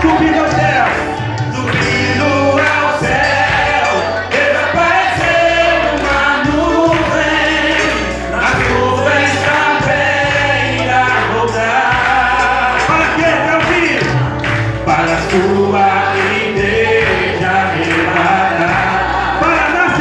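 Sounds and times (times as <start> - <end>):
man singing into a microphone: 0.0 - 20.0
musical accompaniment with low bass: 0.0 - 20.0.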